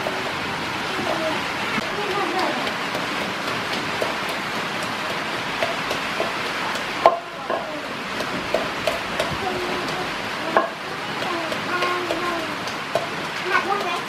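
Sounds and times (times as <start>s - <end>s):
wooden pestle pounding in mortar: 1.8s - 14.0s.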